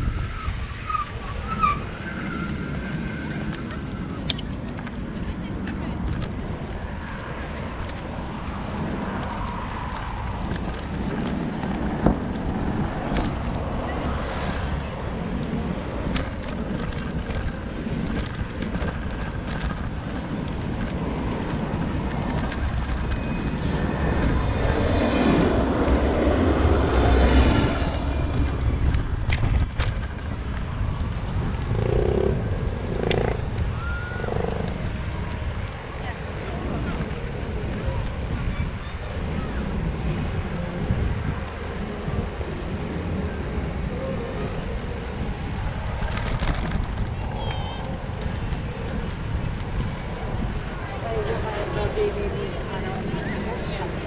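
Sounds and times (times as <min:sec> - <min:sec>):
tram passing: 0:00.0 - 0:54.0
wind rushing over microphone: 0:00.0 - 0:54.0.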